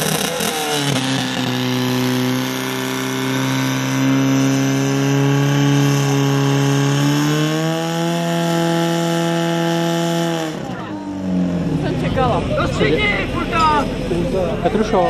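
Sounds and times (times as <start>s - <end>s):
fire pump engine running hard: 0.0s - 15.0s.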